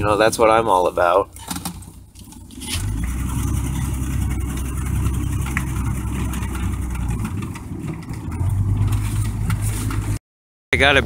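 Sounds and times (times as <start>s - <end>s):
truck engine droning: 0.0s - 10.2s.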